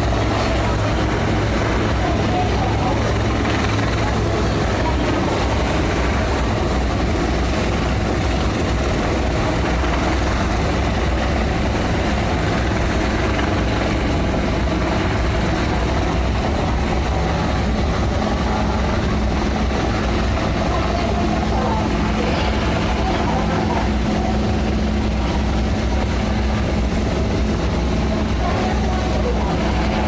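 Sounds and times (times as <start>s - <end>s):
helicopter rotor and turbine: 0.0s - 30.0s.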